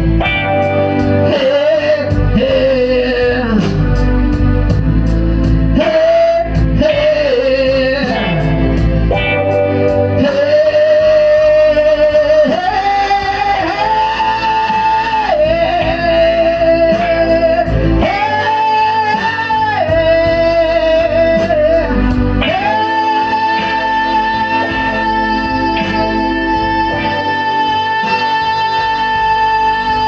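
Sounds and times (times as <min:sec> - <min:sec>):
blues-rock band playing live: 0:00.0 - 0:30.0
sliding lead notes: 0:00.0 - 0:30.0.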